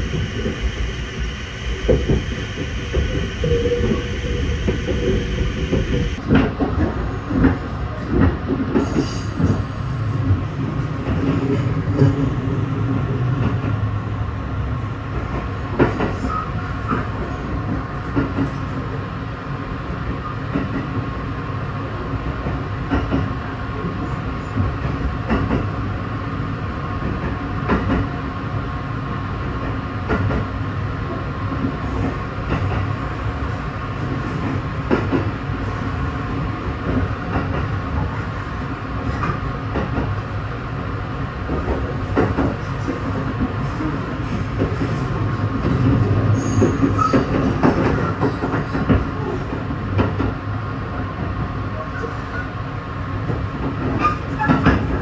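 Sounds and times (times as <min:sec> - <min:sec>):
train rumble and hum inside carriage: 0:00.0 - 0:55.0.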